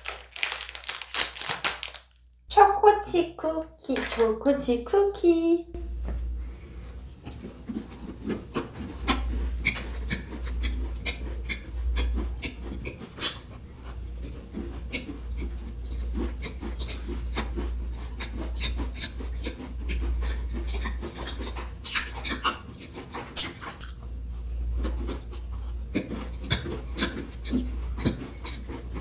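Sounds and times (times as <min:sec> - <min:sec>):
cookie crunching while chewing: 0:00.0 - 0:02.2, 0:07.2 - 0:29.0.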